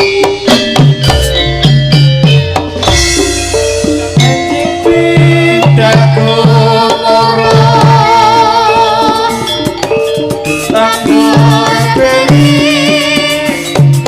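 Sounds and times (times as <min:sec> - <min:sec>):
held pitched notes: 0:00.0 - 0:12.8
drums and percussion: 0:00.0 - 0:14.0
wavering melody line: 0:00.0 - 0:14.0.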